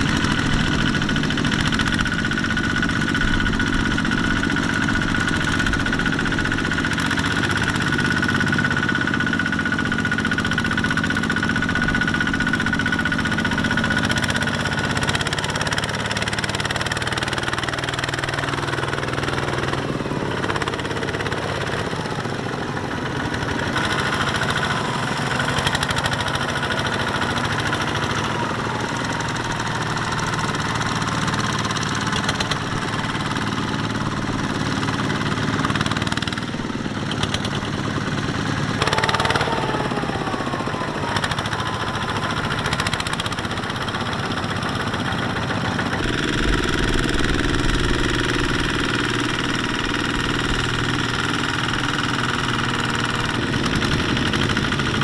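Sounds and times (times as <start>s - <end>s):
tractor diesel engine knocking: 0.0s - 55.0s.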